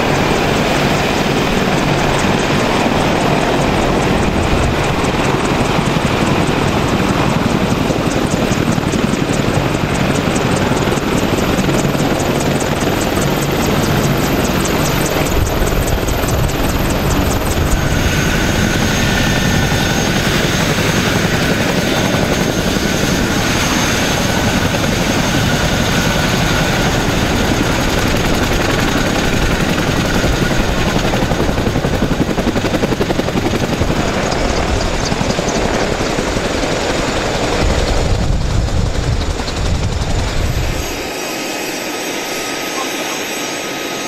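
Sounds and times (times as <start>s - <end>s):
helicopter rotor chopping: 0.0s - 44.0s
high turbine whine: 0.0s - 44.0s.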